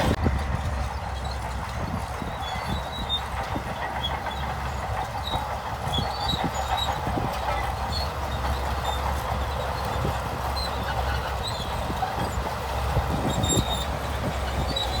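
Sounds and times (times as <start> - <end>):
bulldozer diesel engine droning: 0.0 - 15.0
crawler tracks clanking: 0.0 - 15.0.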